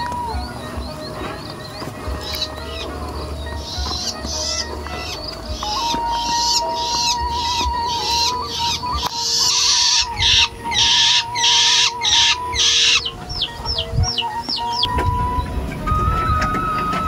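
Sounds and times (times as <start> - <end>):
pulsing animal calls: 0.0 - 17.0.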